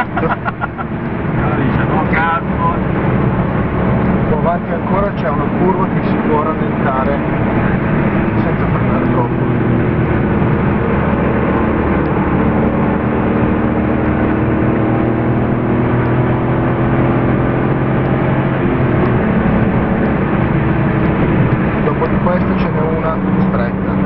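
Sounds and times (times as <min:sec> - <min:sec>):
car engine pulling at speed: 0:00.0 - 0:24.0.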